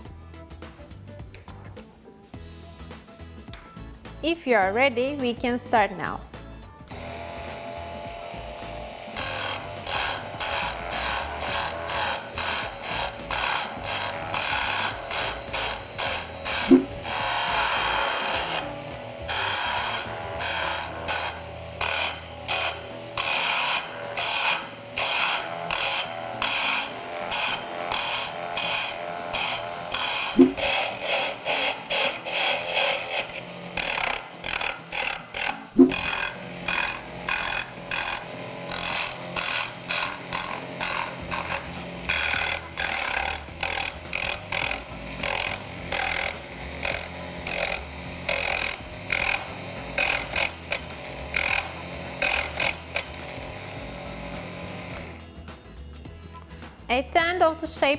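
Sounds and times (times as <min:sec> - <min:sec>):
tool scraping spinning wood: 0:07.0 - 0:55.3.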